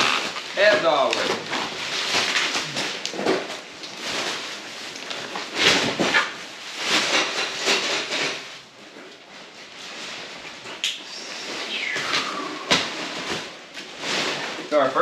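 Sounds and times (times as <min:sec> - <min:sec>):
plastic wrap and boxes rustling: 0:00.0 - 0:15.0.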